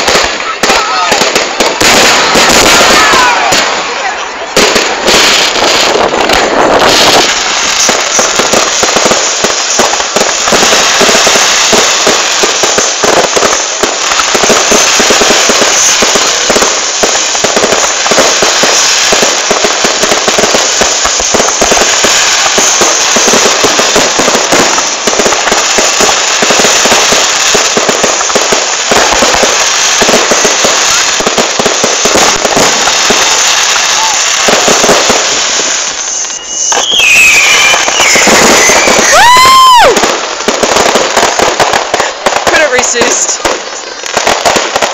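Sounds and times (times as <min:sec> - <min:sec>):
fireworks popping and crackling: 0:00.0 - 0:44.9.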